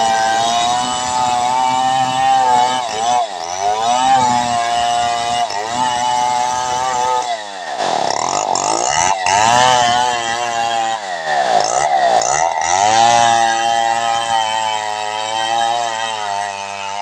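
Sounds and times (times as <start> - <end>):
chainsaw ripping a log: 0.0 - 17.0.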